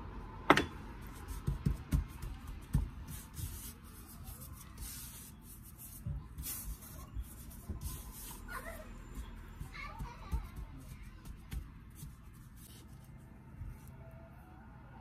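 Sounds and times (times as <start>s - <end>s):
dough being patted: 0.5s - 12.9s.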